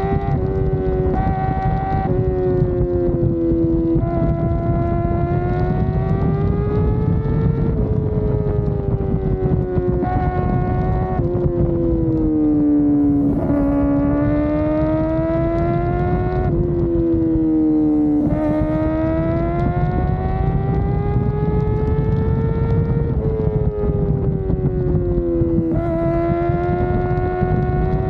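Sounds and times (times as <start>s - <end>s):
motorcycle engine at high revs: 0.0s - 28.0s
wind rush: 0.0s - 28.0s.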